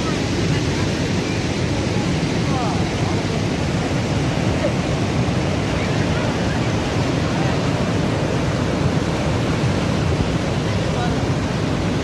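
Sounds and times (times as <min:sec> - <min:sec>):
water rushing over a weir: 0:00.0 - 0:12.0.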